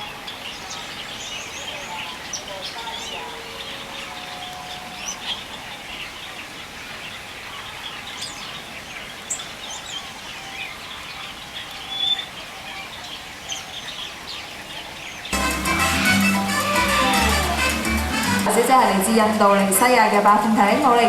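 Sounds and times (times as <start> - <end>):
birds chirping and twittering: 0.0 - 21.0.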